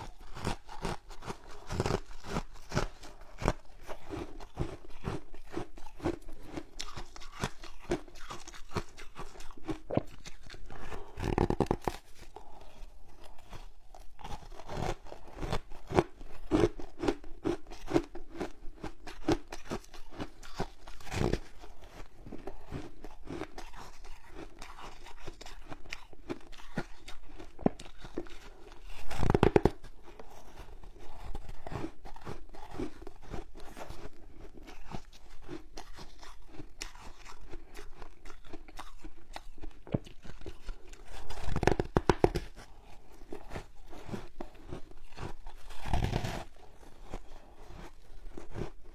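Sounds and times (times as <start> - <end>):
crunching frozen ice: 0.0 - 48.8.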